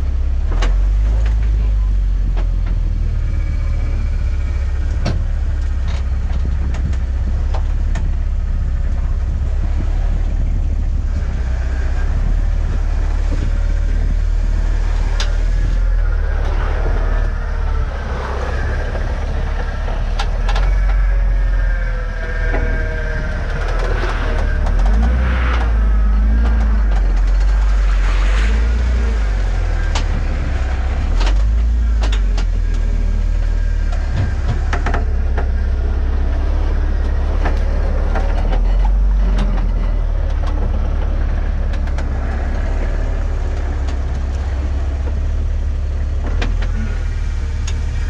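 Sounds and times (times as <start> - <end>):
engine low rumble: 0.0 - 48.0
wavering higher whine: 0.7 - 48.0.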